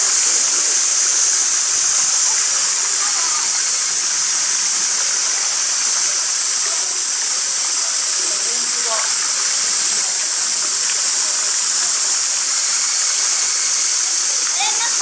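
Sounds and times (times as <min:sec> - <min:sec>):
faint distant voices: 0:00.0 - 0:05.8, 0:07.7 - 0:15.0
cicadas droning: 0:00.0 - 0:15.0.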